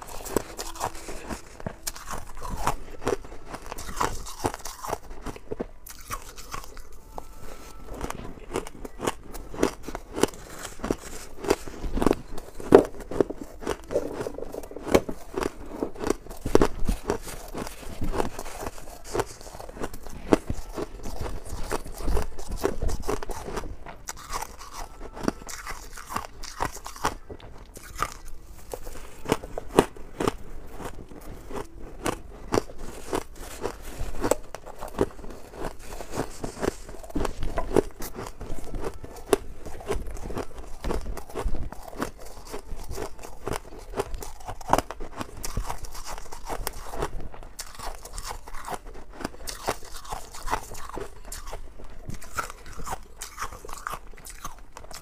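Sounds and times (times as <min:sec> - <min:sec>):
frost being chewed: 0:00.0 - 0:55.0.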